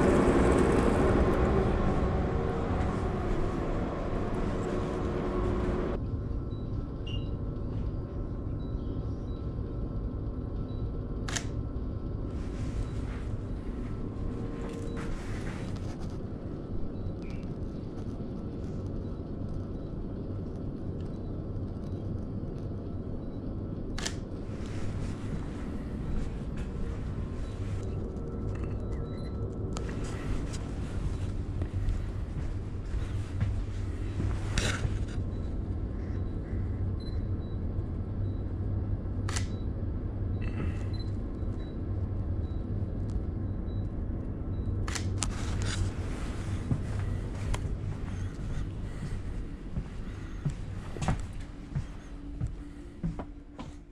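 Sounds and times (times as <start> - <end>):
low hum inside train carriage: 0.0 - 53.9.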